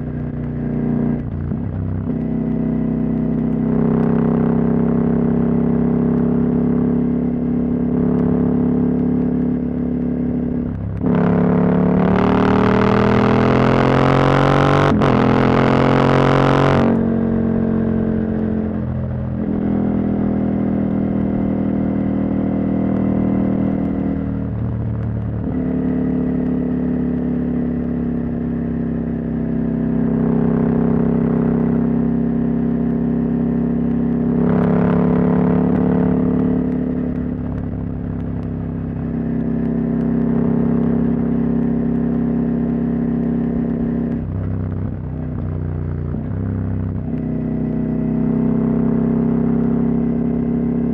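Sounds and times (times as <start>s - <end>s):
motorcycle engine riding: 0.0s - 50.9s.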